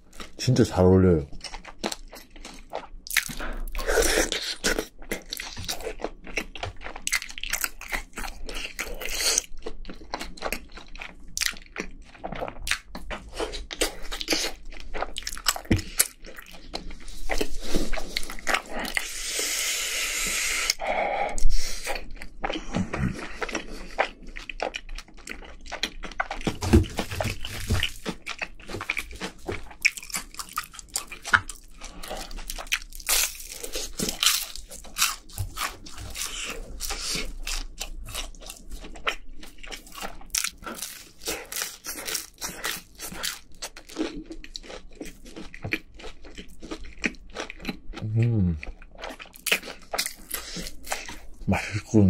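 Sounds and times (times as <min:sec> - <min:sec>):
person chewing and crunching food: 0:00.0 - 0:52.0.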